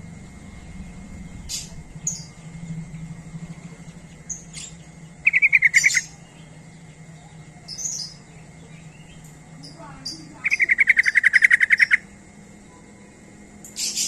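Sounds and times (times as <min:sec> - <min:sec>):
faint steady hum: 0:00.0 - 0:14.0
bird chirping: 0:00.6 - 0:12.1.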